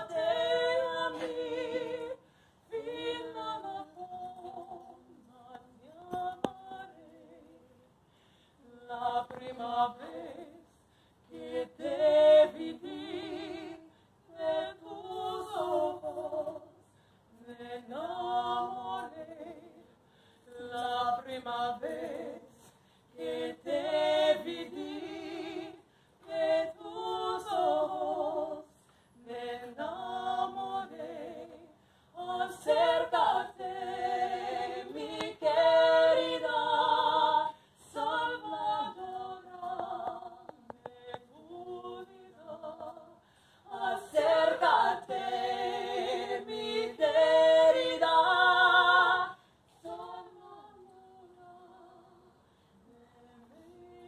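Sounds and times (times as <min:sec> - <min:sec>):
two women singing: 0:00.0 - 0:08.0, 0:08.6 - 0:54.0.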